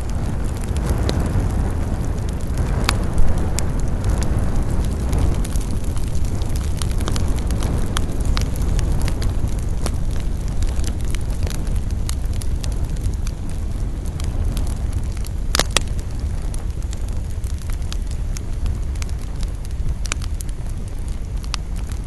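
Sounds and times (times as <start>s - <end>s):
campfire burning: 0.0s - 22.0s
wood crackles: 0.0s - 22.0s.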